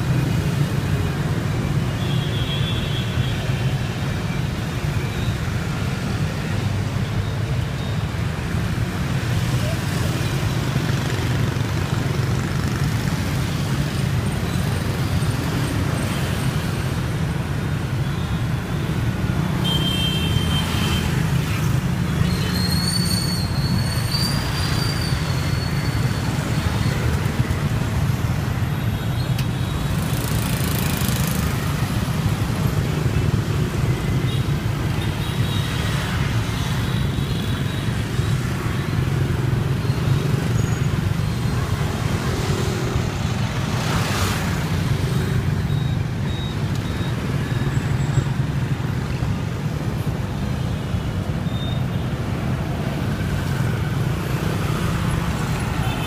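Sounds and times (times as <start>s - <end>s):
busy street traffic: 0.0s - 56.0s.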